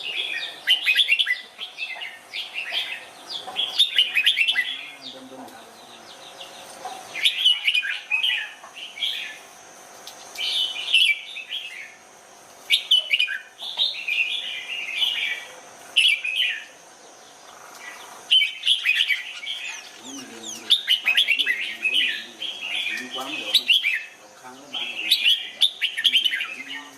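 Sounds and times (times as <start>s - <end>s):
bulbul singing: 0.0s - 26.9s.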